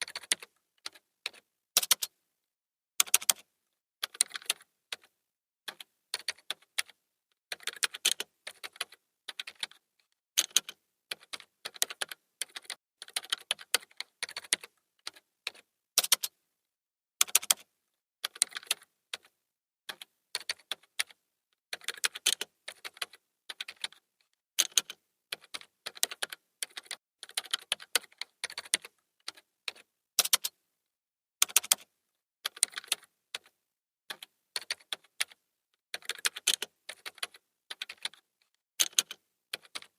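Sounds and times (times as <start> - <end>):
computer keyboard typing: 0.0 - 2.1, 3.0 - 5.1, 5.7 - 9.8, 10.4 - 16.3, 17.2 - 24.0, 24.6 - 30.6, 31.4 - 31.9, 32.5 - 35.4, 36.0 - 39.9.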